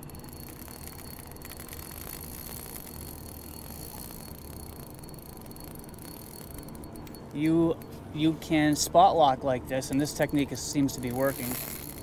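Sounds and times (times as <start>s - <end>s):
fishing reel ticking: 0.0s - 12.0s
steady low hum: 0.0s - 12.0s.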